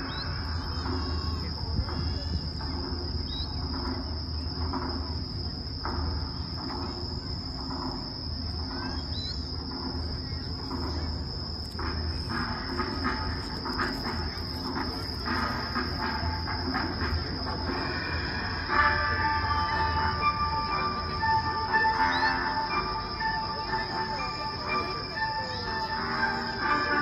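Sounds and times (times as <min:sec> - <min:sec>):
crickets chirring: 0:00.0 - 0:27.0
crowd murmur: 0:00.0 - 0:27.0.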